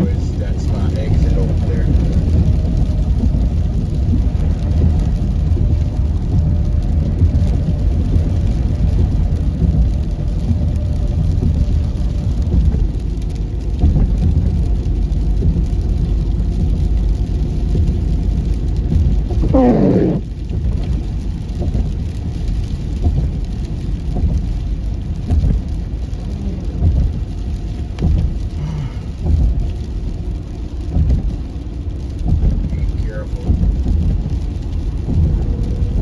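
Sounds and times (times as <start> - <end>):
car driving on slushy road: 0.0 - 36.0.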